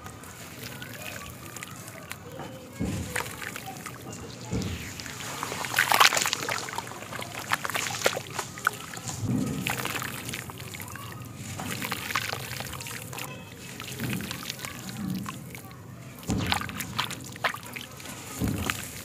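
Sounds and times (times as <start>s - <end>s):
hands sloshing in water: 0.0s - 19.0s
sand pouring into water: 0.0s - 19.0s
wet sand crunching: 0.0s - 19.0s.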